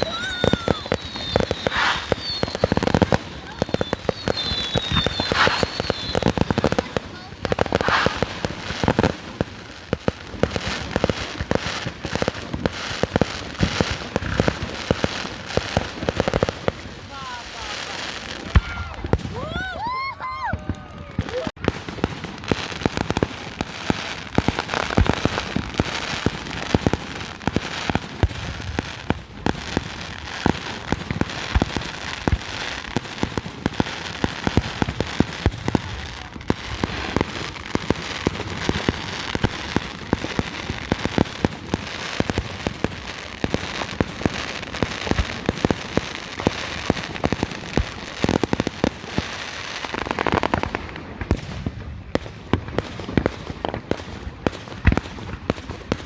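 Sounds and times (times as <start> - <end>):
fireworks crackling hiss: 0.0 - 56.0
fireworks popping and banging: 0.0 - 56.0.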